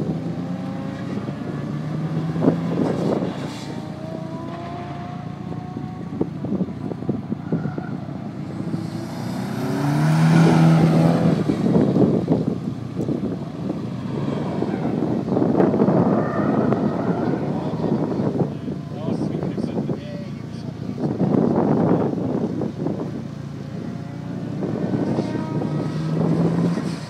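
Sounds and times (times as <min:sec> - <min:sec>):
car engine revving: 0:00.0 - 0:27.0
wind buffeting microphone: 0:00.0 - 0:27.0.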